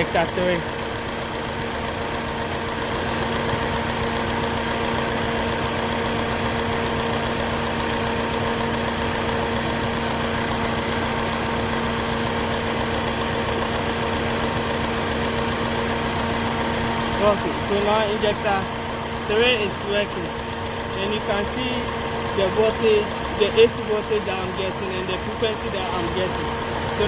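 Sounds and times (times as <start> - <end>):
car engine idling roughly: 0.0 - 27.0.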